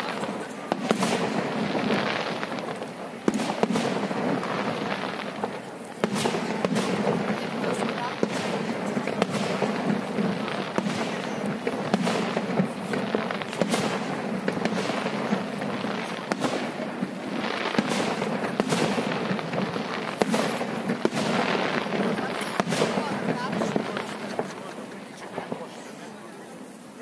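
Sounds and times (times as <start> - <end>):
fireworks bursting bangs: 0.0 - 27.0.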